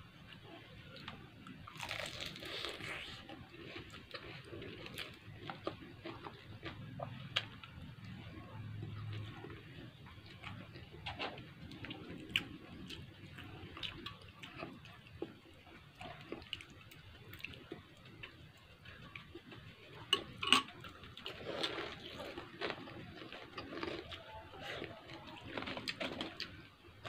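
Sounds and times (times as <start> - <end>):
person chewing food: 0.2 - 27.0.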